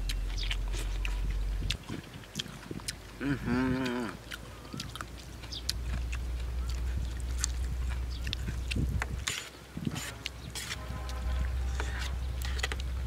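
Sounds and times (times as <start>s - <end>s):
noodles slurped and chewed: 0.0s - 13.0s
wind rumble on microphone: 0.3s - 4.1s, 5.7s - 13.0s.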